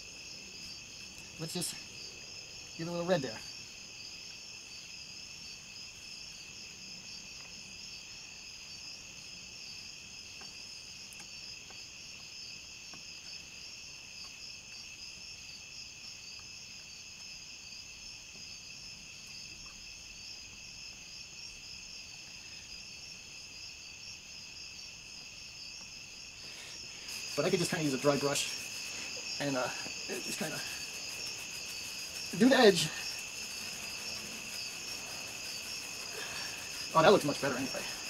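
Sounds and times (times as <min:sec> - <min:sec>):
insects chirring: 0:00.0 - 0:38.0.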